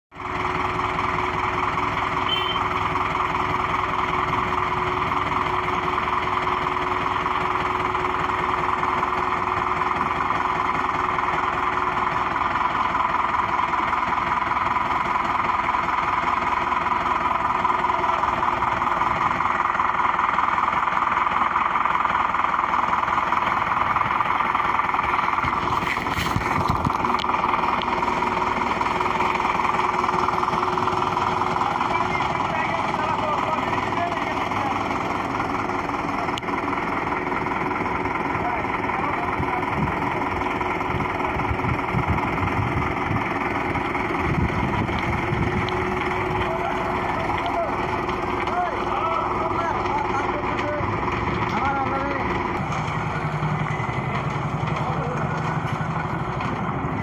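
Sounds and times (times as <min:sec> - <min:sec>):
diesel truck engine idling: 0:00.1 - 0:57.0.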